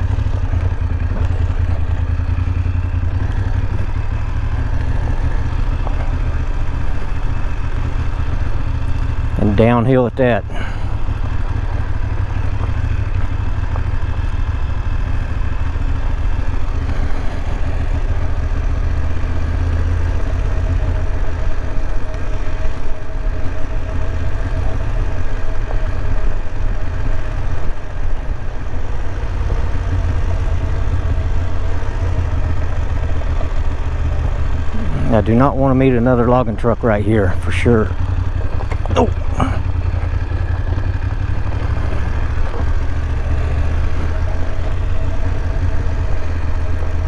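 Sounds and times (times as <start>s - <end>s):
motorcycle engine running at low revs: 0.0s - 47.0s
tyres on loose gravel: 0.0s - 47.0s.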